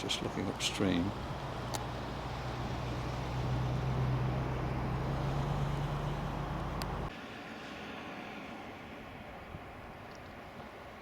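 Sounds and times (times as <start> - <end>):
flooded stream rushing: 0.0 - 9.4.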